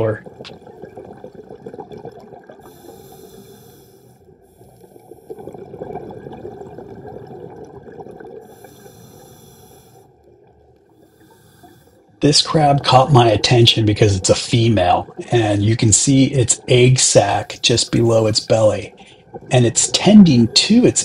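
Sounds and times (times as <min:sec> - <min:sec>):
underwater rushing water: 0:00.0 - 0:21.0.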